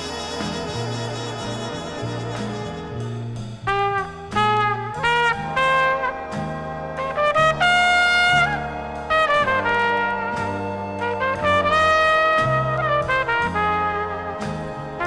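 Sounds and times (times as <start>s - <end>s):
trumpet long high note: 0.0s - 6.3s, 7.0s - 14.5s
bass line: 0.0s - 15.0s
big band instrumental: 0.0s - 15.0s
punchy brass phrases: 0.0s - 15.0s.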